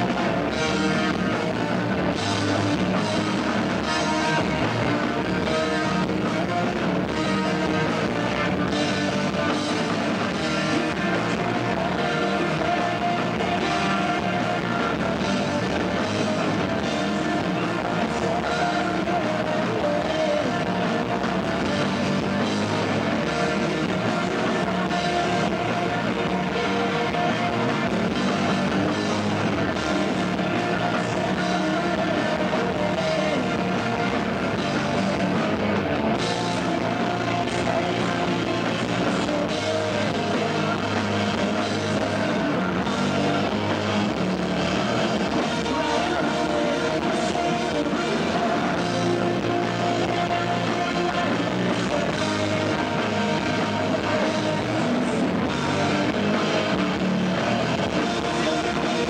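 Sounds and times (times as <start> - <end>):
distorted electric guitars: 0.0 - 59.0
drum kit playing: 0.0 - 59.0
person singing: 0.0 - 59.0.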